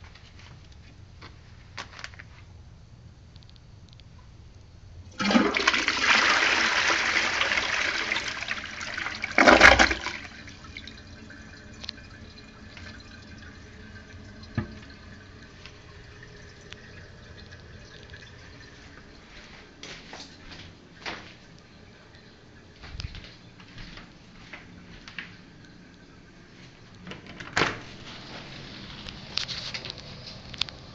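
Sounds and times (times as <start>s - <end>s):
toilet flushing: 5.1s - 30.9s.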